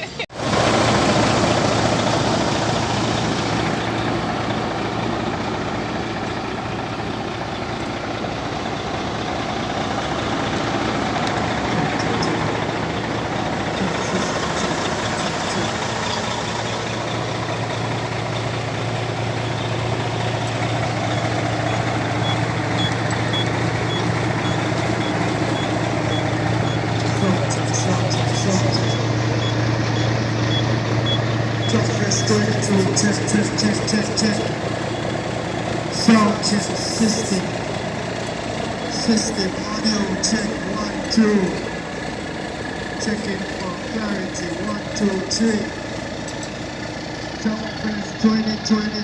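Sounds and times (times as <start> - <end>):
truck engine running: 0.0 - 49.0
reversing alarm beeping: 0.8 - 46.8.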